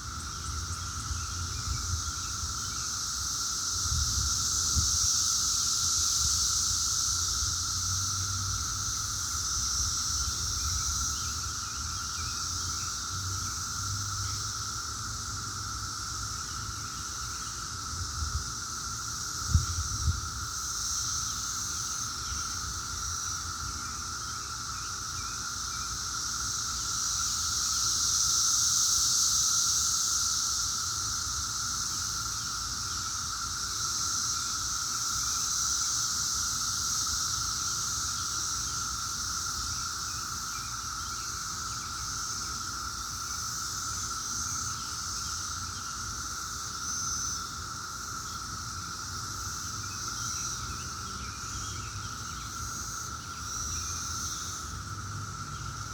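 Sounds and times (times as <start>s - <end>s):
cicadas droning buzz: 0.0s - 55.9s.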